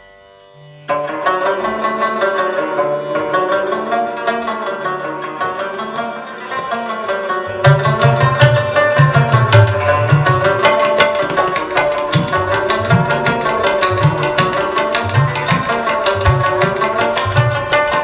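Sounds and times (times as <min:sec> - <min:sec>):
plucked string notes: 0:00.0 - 0:18.0.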